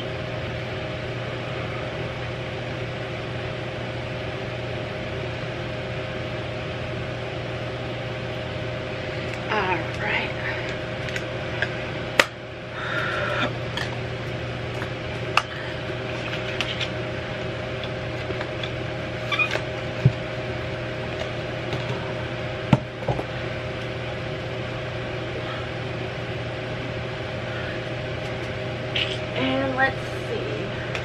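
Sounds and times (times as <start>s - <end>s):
appliance humming: 0.0s - 31.0s.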